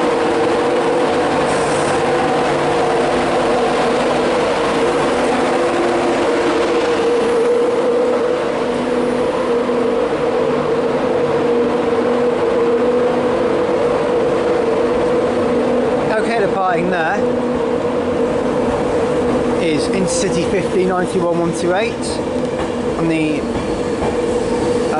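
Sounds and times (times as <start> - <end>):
electric locomotive humming: 0.0 - 24.9.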